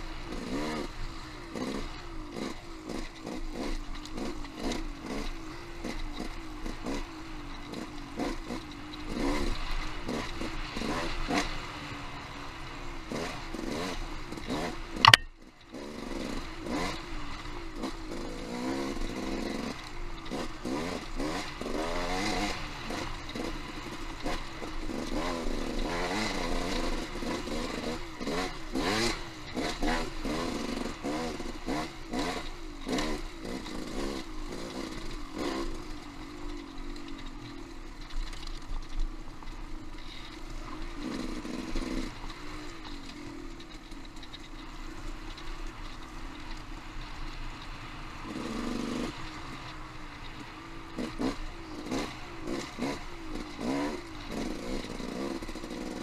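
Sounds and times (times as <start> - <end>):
dirt bike engine revving: 0.2 - 11.6, 13.1 - 37.7, 40.4 - 44.2, 48.2 - 49.6, 50.3 - 56.0.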